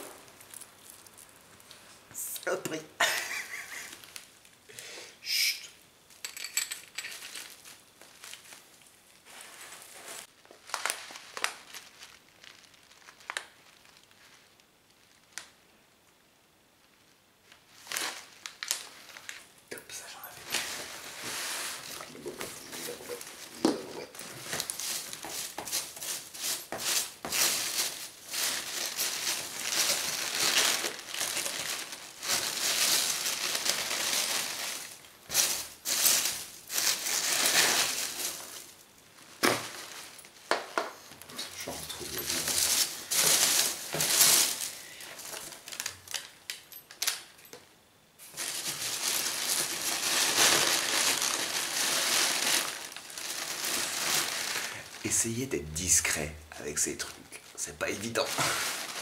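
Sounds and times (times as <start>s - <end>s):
hands rustling packing peanuts: 7.0s - 15.4s, 17.7s - 47.1s, 48.2s - 59.0s.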